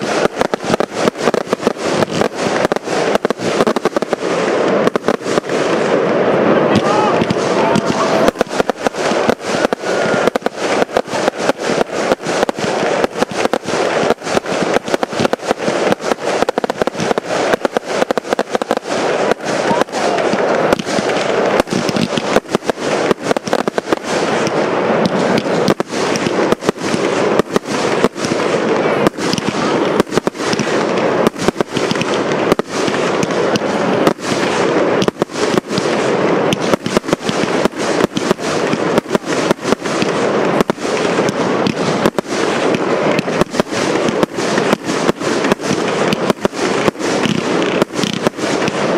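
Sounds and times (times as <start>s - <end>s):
crackling hiss: 0.0s - 48.9s
firework bangs: 0.0s - 48.9s.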